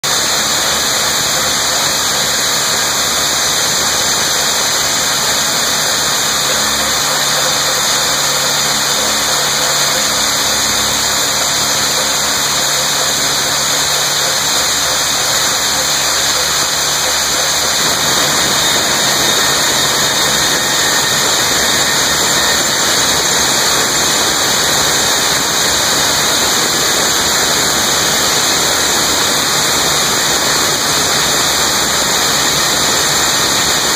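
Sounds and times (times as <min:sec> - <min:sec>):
low hum: 0:00.1 - 0:32.9
rock drills hissing: 0:00.1 - 0:33.9.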